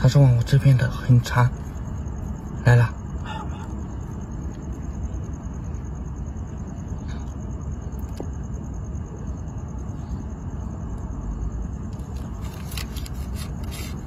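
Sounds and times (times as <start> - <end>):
high pulsing insect trill: 0.0 - 14.0
steady low rumble: 0.0 - 14.0.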